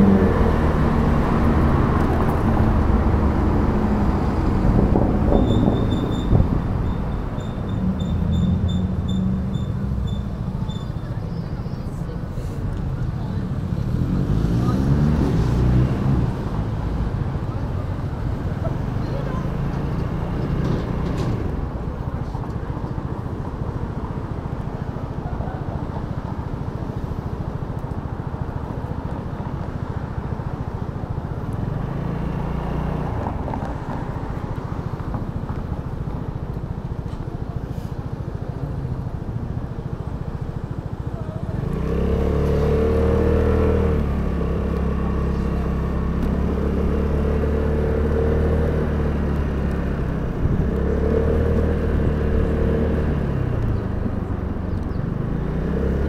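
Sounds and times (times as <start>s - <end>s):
scooter engine idling and accelerating: 0.0s - 56.0s.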